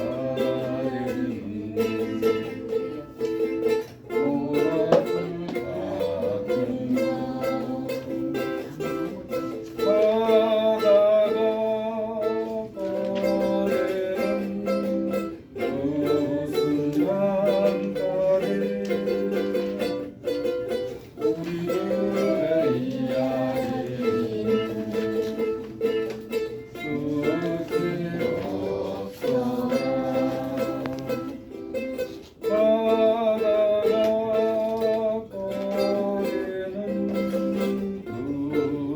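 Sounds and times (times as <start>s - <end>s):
plucked string music: 0.0s - 38.9s.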